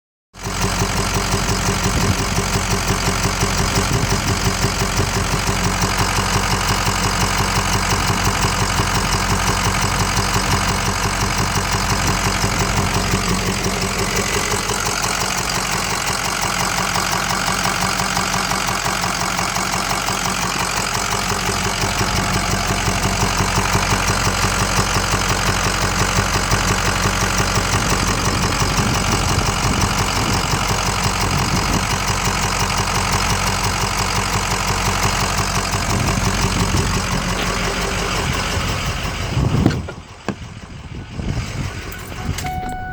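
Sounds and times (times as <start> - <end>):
diesel engine idling: 0.4 - 42.9.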